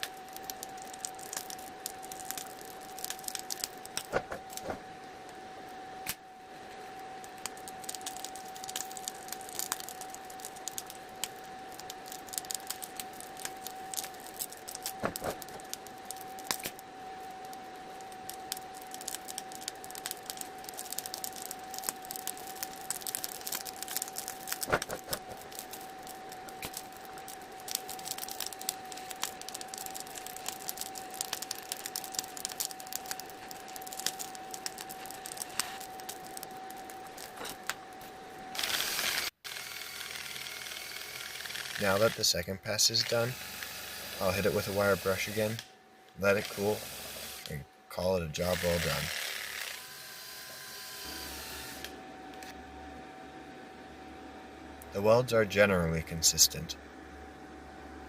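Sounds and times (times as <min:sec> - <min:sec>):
welding arc whine with crackling: 0:00.0 - 0:58.0.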